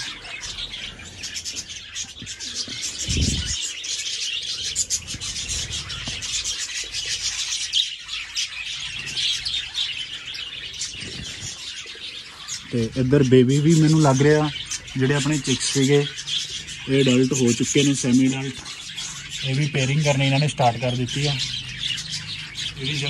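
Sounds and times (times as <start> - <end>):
birds chirping and chattering: 0.0 - 23.0.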